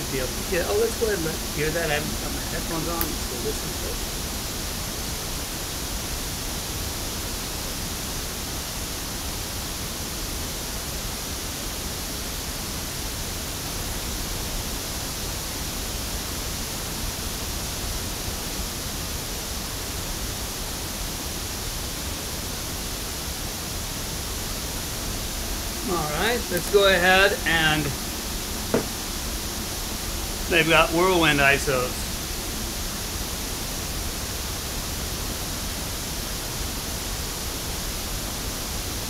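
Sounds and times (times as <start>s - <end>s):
pink noise hiss from loudspeaker: 0.0s - 39.0s.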